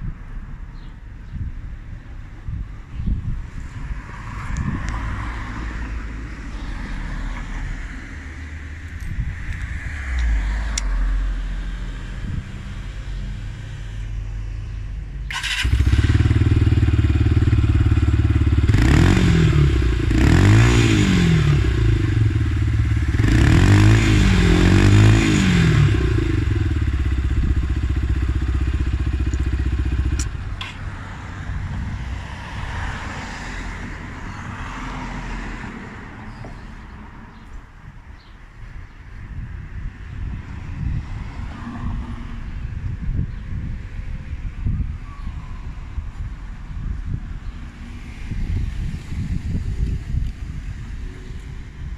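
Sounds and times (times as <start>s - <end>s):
motorcycle engine idling and revving: 0.0s - 34.4s, 39.4s - 51.9s.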